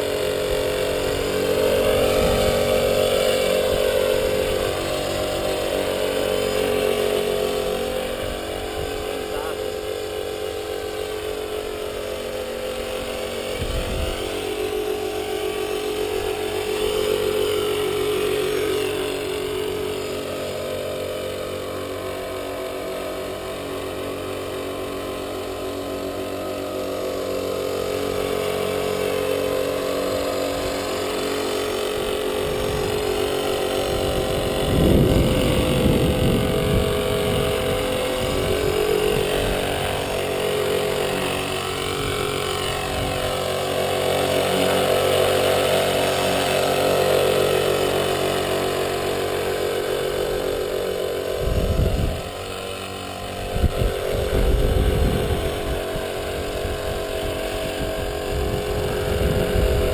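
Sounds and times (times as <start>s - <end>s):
rc helicopter motor whine: 0.0s - 59.9s
rotor buzzing: 0.0s - 59.9s.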